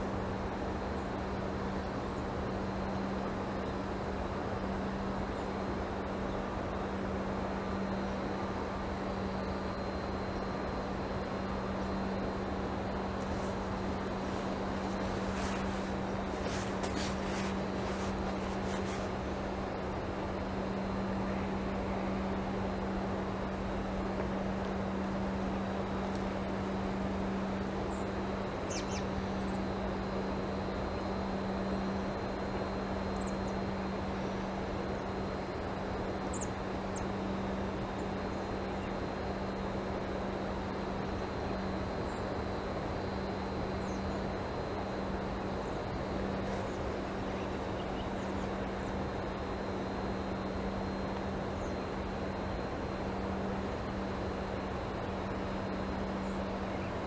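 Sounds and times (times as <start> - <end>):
constant low hum: 0.0 - 57.0.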